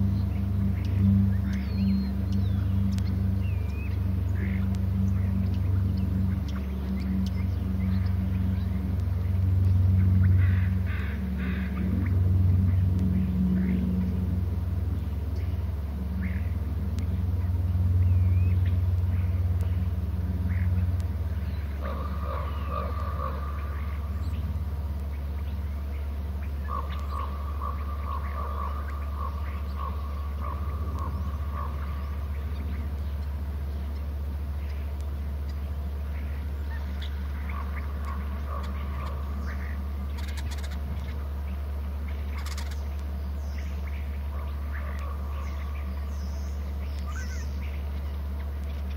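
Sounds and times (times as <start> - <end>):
faint bird calls: 0.0 - 48.9
low motor hum: 0.0 - 48.9.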